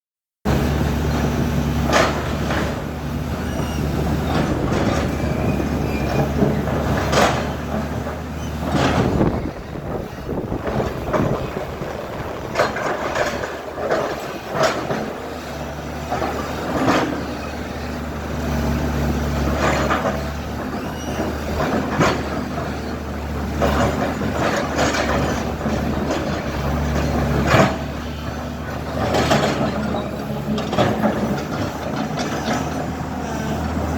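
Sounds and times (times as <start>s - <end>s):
diesel engine under load: 0.5s - 33.9s.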